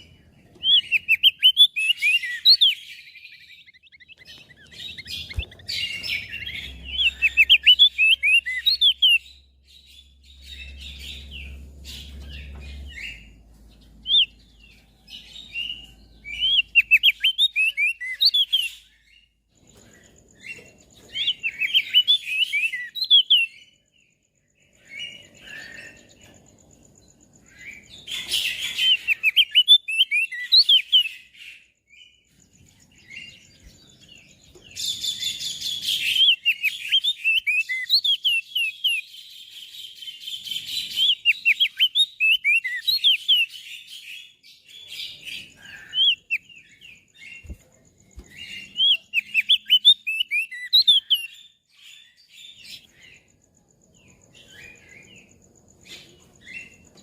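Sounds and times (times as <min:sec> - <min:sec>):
bird twittering chirps: 0:00.0 - 0:57.0.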